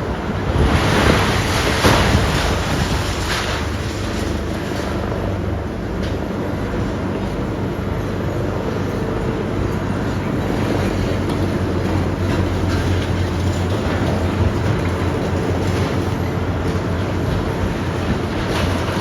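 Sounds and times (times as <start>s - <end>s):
engine hum: 0.0s - 19.0s
machinery rumbling clatter: 0.0s - 19.0s.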